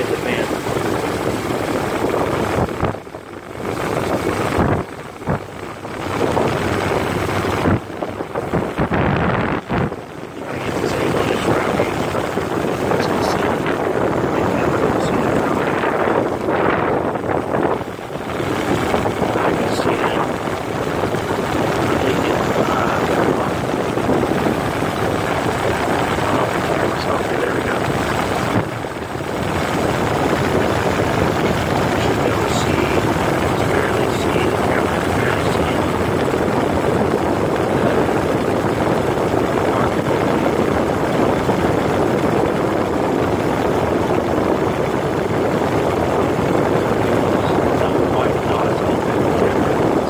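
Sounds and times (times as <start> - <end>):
car engine idling rough: 0.0 - 50.0.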